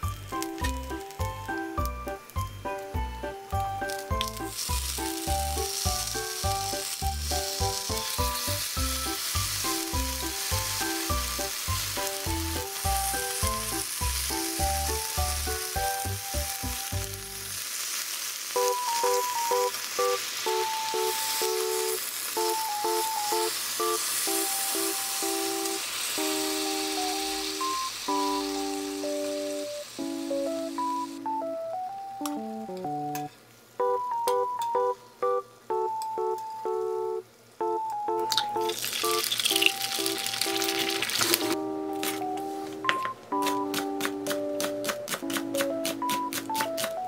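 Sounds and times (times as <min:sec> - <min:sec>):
eggplant sizzling in a frying pan: 0:00.0 - 0:36.6, 0:37.3 - 0:47.0.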